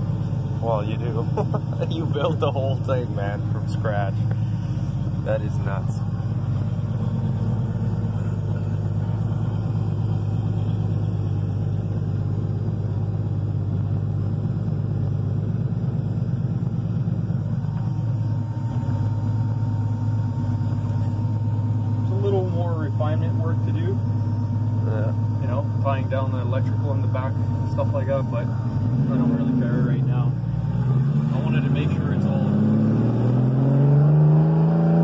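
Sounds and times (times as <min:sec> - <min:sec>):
race car engine idling: 0:00.0 - 0:32.7.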